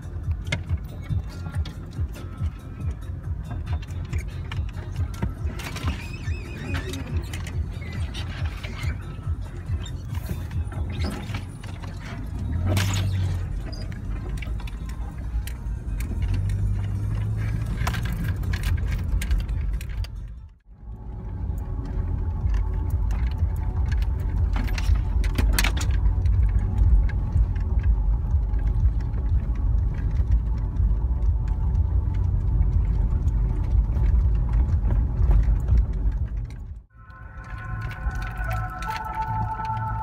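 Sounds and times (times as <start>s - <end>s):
car road rumble: 0.0s - 40.0s
rattles and clicks: 0.0s - 40.0s.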